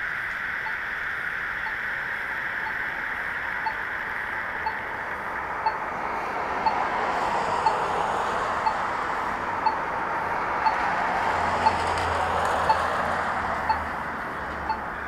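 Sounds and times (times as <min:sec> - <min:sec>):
crossing signal ticking: 0:00.0 - 0:15.0
traffic noise: 0:00.0 - 0:15.0
car approaching: 0:00.1 - 0:15.0.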